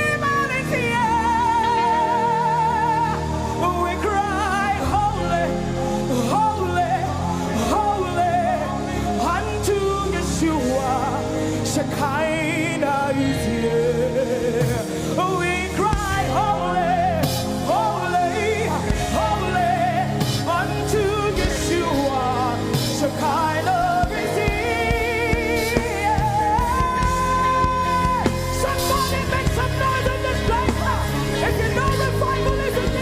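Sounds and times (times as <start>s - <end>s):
band with keyboard and drums: 0.0s - 33.0s
person singing with vibrato: 0.0s - 33.0s.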